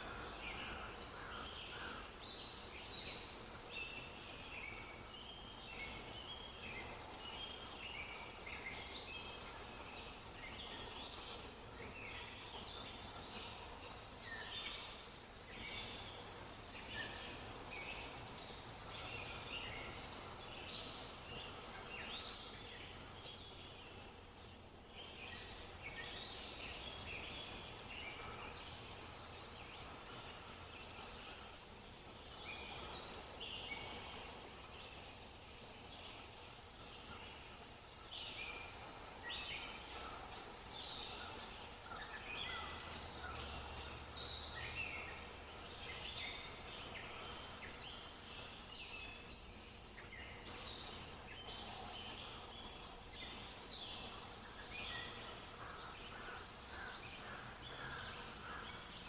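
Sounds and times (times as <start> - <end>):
faint steady background noise: 0.0 - 59.0
small birds chirping: 0.0 - 59.0.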